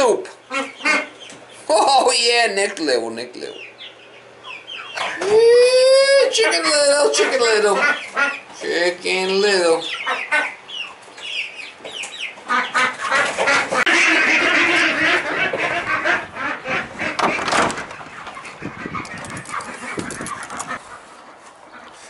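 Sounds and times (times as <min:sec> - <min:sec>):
hens chirping and clucking: 0:00.0 - 0:22.0.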